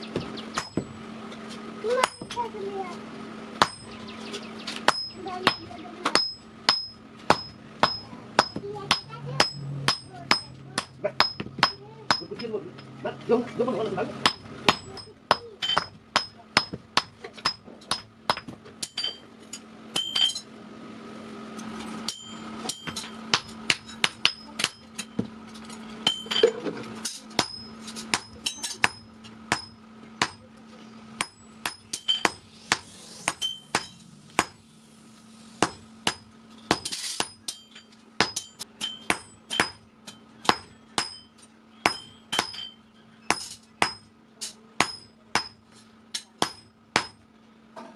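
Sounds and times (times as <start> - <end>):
hammer striking hot steel: 0.2 - 1.0, 3.6 - 4.0, 4.8 - 12.6, 14.2 - 20.4, 22.0 - 30.5, 31.2 - 34.6, 35.6 - 47.3.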